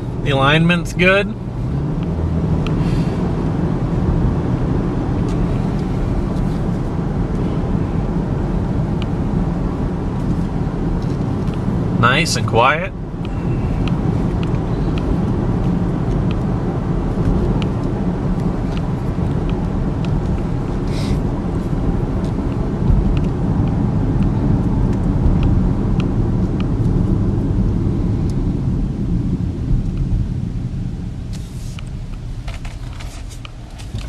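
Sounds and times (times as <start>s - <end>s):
road and tyre noise in car cabin: 0.0s - 34.0s.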